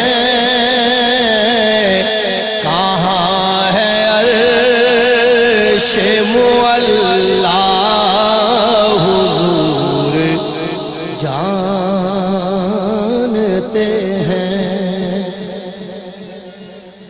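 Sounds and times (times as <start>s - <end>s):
man singing ornamented melody: 0.0s - 17.0s.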